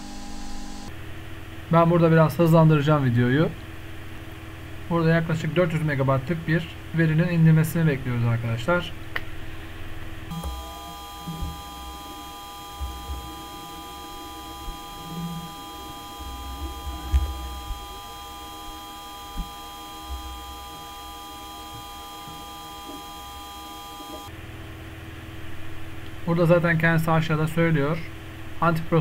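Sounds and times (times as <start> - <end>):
steady electronic hum: 0.0 - 25.9.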